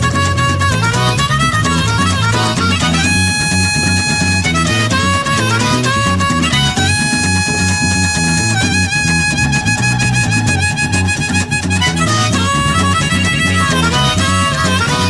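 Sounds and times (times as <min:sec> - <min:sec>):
country-folk instrumental music: 0:00.0 - 0:15.0
lead instrument long high notes: 0:00.0 - 0:15.0
steady drum beat: 0:00.0 - 0:15.0
walking bass line: 0:00.0 - 0:15.0.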